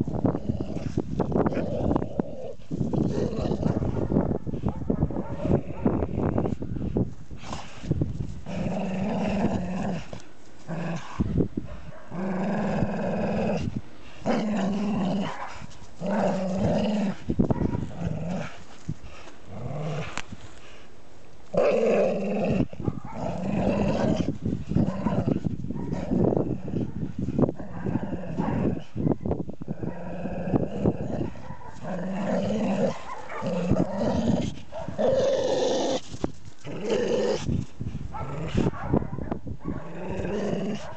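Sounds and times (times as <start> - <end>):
dogs growling in play: 0.0 - 6.6, 7.4 - 20.8, 21.5 - 29.0, 29.6 - 40.9.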